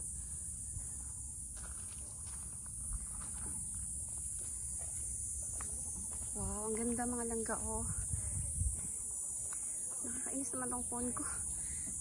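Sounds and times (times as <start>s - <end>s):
insects droning: 0.0s - 12.0s
footsteps on trail: 0.4s - 12.0s.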